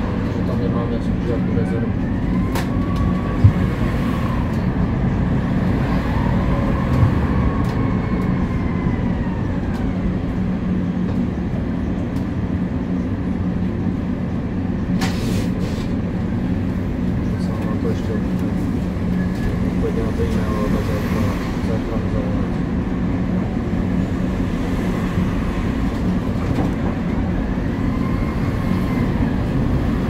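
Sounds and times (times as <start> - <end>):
tram rumbling: 0.0 - 30.0.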